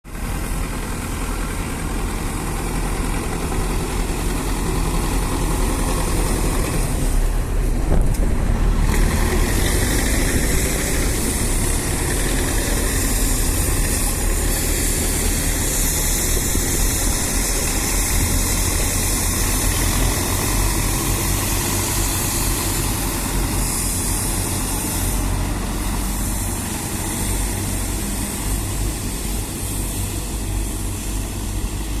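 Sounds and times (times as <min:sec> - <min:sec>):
blizzard wind hissing: 0:00.1 - 0:32.0
vehicle engine idling: 0:00.1 - 0:32.0.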